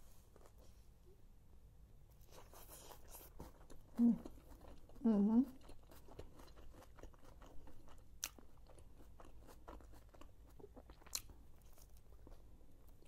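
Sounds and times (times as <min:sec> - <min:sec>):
faint wet chewing: 0:02.1 - 0:13.0.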